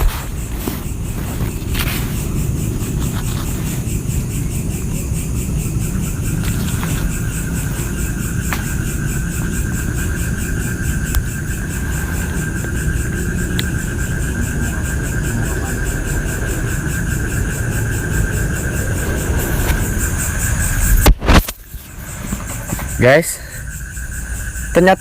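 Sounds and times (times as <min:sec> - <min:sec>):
low rumble: 0:00.0 - 0:22.7
insects trilling: 0:00.0 - 0:25.0.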